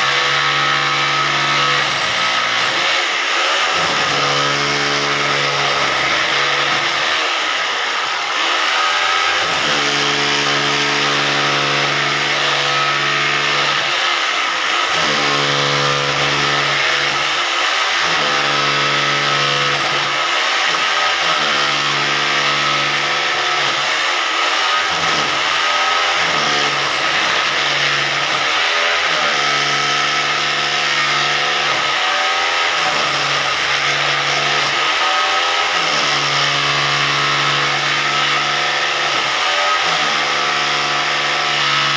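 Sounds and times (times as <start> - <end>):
hammer drill motor humming: 0.0 - 41.9.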